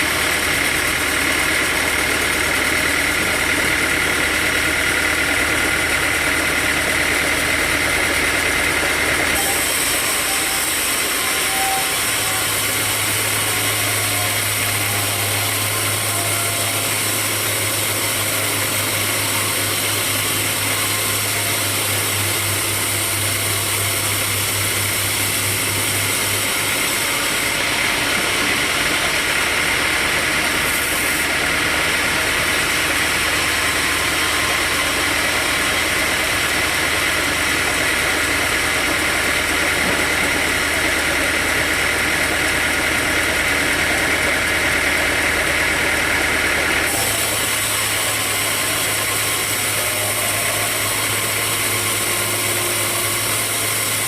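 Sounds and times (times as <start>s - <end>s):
sawmill machinery droning: 0.0s - 54.0s.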